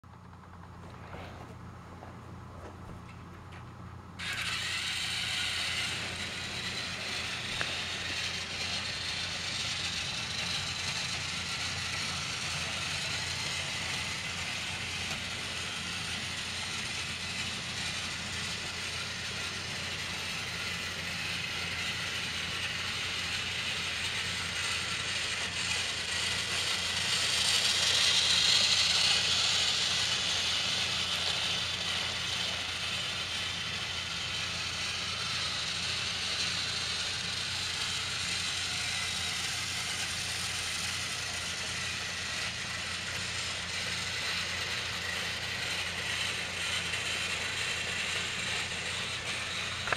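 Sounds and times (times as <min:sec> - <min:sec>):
toy train motor whirring: 0:04.2 - 0:49.9
wheels clattering on plastic track: 0:04.2 - 0:49.9.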